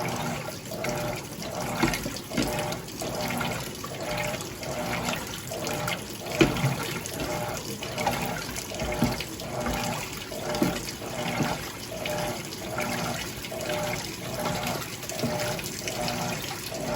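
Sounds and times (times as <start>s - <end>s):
washing machine motor hum: 0.0s - 16.9s
water sloshing in washing machine: 0.0s - 16.9s.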